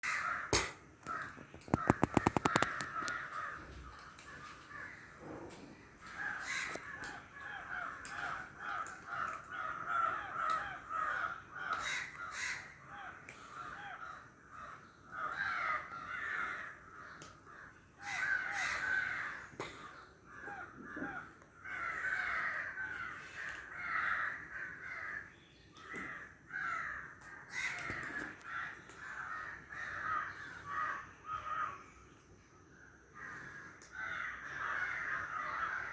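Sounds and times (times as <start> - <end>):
many birds calling: 0.0 - 35.9.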